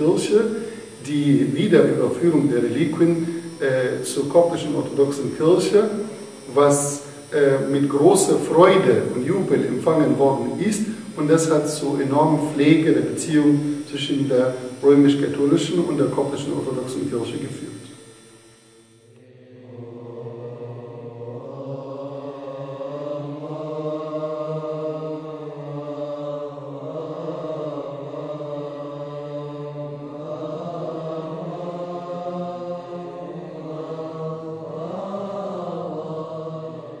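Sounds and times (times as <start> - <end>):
slow chanting: 0.0 - 37.0
steady low drone: 0.0 - 37.0.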